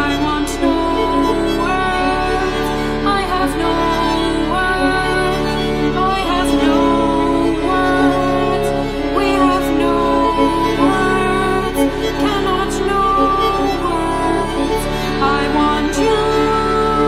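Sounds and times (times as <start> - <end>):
slow sad string music: 0.0 - 17.0.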